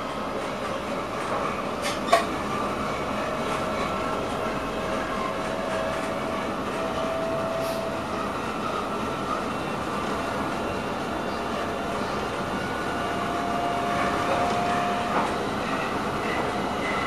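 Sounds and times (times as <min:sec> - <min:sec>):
train rolling noise: 0:00.0 - 0:17.0.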